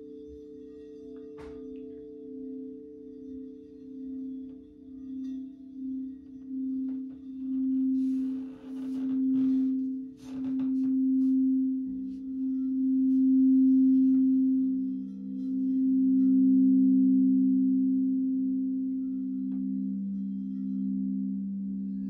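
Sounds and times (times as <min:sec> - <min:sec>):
lower singing bowl tone: 0:00.0 - 0:22.0
singing bowl ringing tone: 0:00.0 - 0:22.0.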